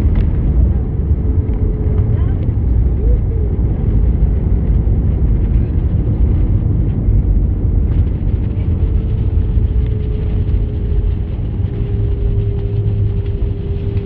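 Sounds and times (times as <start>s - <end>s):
faint steady whine: 0.0s - 14.0s
low rumble of engines and airflow: 0.0s - 14.0s.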